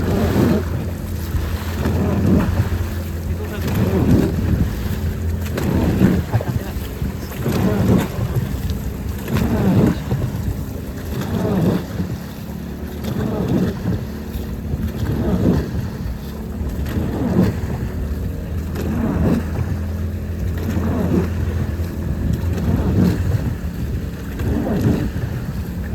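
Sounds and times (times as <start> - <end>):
small waves slapping: 0.0 - 25.9
steady low hum: 0.0 - 25.9
wind buffeting microphone: 0.0 - 25.9.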